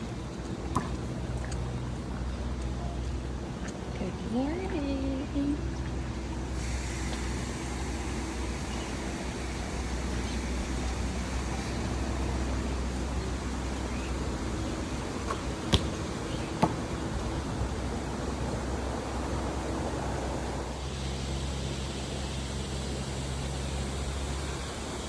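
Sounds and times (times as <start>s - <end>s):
low hum: 0.0s - 25.0s
rushing background noise: 0.0s - 25.0s.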